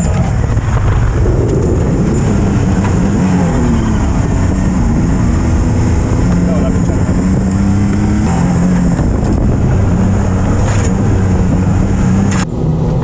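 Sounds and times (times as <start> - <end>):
engine running through gears: 0.0 - 13.0.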